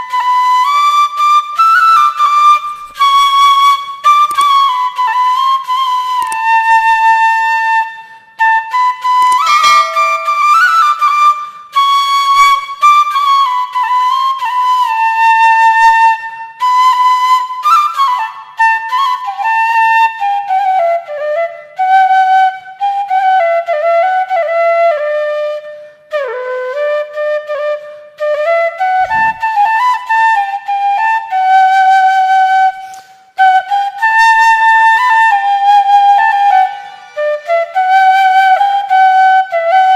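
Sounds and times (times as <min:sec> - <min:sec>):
solo flute-like melody: 0:00.0 - 0:39.9.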